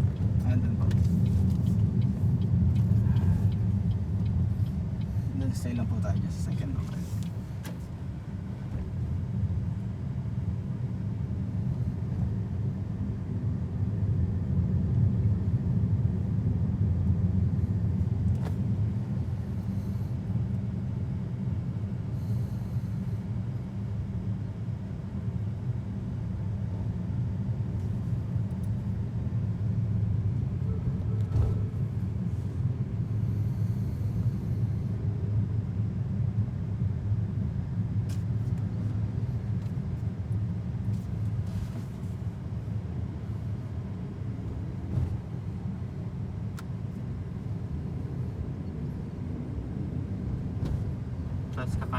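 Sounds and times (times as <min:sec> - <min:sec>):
road and tyre rumble in car: 0:00.0 - 0:51.9.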